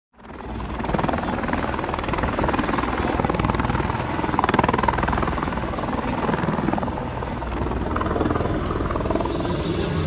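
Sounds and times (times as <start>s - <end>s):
helicopter rotor blades beating: 0.2s - 10.0s
helicopter turbine noise: 0.2s - 10.0s.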